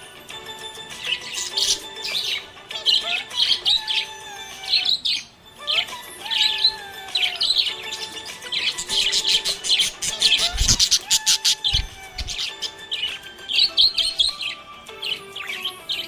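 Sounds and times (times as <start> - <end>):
budgerigar chirping: 1.0 - 16.0.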